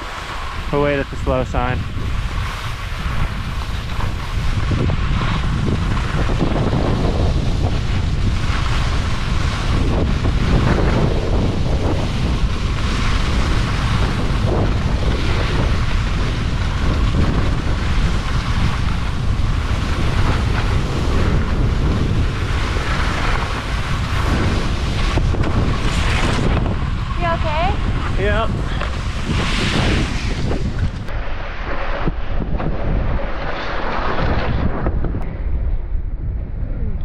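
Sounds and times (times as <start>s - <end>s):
skis sliding on snow: 0.0s - 35.1s
wind buffeting microphone: 0.0s - 37.0s.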